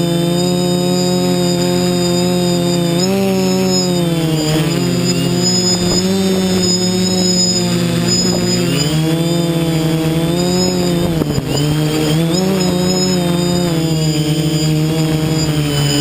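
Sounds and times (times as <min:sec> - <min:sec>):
drone motors humming and whining: 0:00.0 - 0:16.0.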